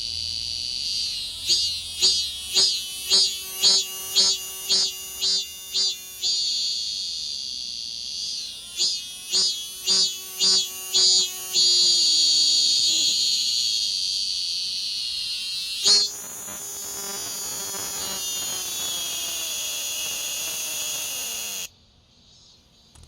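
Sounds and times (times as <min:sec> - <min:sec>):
cicada buzzing: 0:00.0 - 0:21.7.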